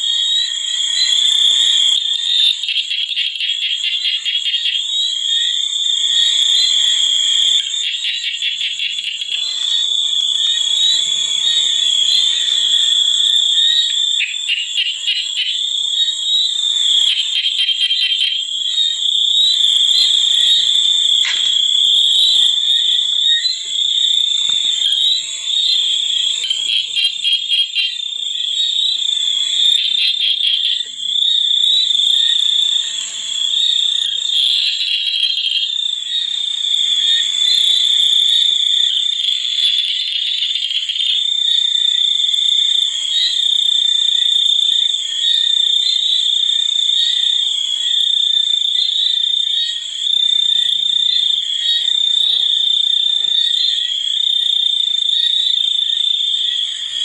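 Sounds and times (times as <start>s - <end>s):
frogs and insects ringing drone: 0.0s - 57.0s
rapid pulsing frog calls: 0.0s - 57.0s.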